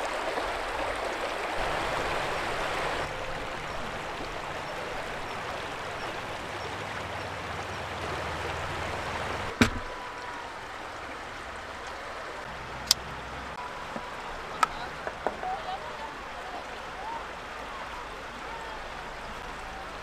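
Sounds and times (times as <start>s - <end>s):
stream running over pebbles: 0.0s - 20.0s.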